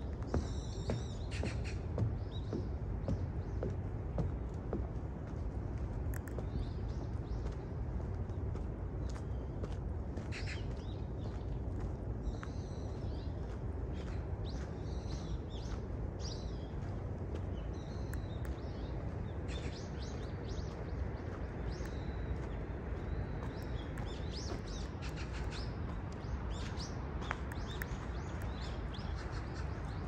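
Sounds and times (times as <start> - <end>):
low background rumble: 0.0 - 30.0
small birds chirping: 0.0 - 30.0.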